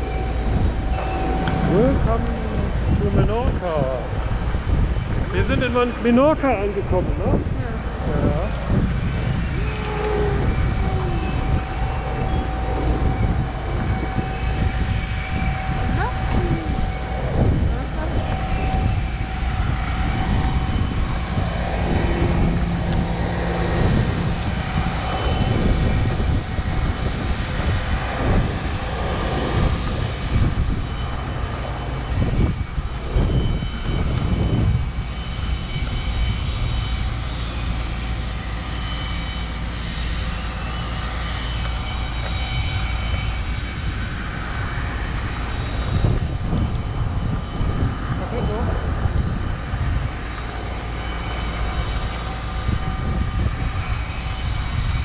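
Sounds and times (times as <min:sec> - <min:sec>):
jet turbine whine: 0:00.0 - 0:55.0
low rumble: 0:00.0 - 0:55.0.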